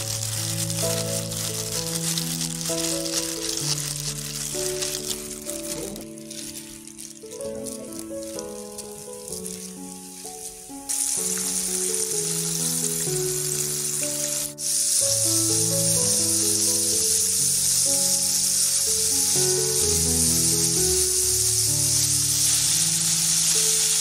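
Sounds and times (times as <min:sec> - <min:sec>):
background music sustained notes: 0:00.0 - 0:24.0
food sizzling in oil: 0:00.0 - 0:24.0.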